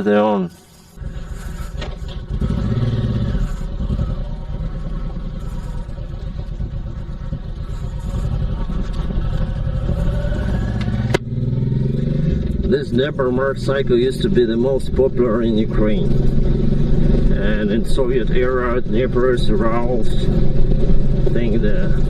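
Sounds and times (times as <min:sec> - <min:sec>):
motorcycle engine revving: 0:00.8 - 0:22.0.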